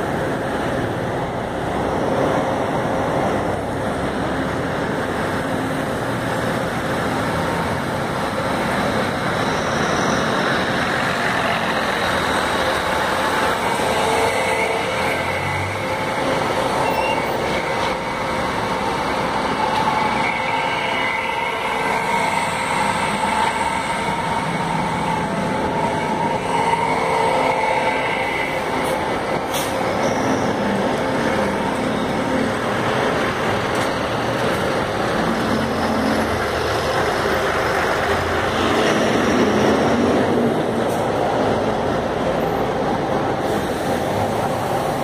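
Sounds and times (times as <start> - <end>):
bus engines: 0.0 - 45.0
passing cars: 0.0 - 45.0.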